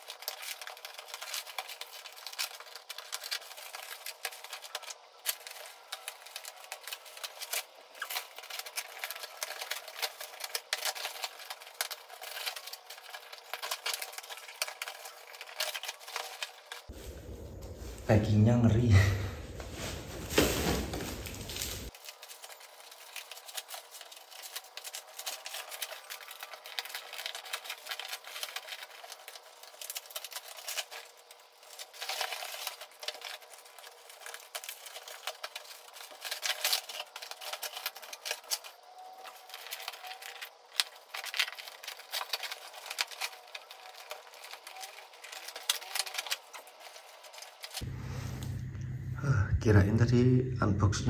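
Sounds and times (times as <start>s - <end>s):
plastic film crinkling: 0.0s - 48.5s.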